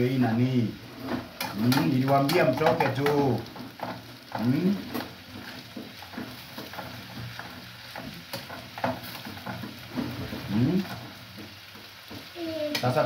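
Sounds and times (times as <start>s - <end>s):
frying sizzle: 0.0s - 13.0s.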